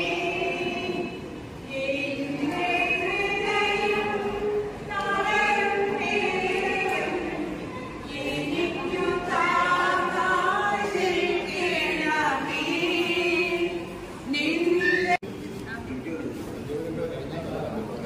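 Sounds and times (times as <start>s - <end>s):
congregation singing a hymn: 0.0s - 14.7s.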